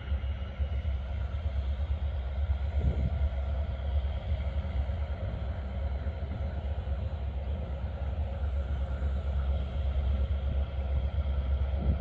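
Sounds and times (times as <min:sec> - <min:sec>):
diesel train approaching: 0:00.0 - 0:12.0.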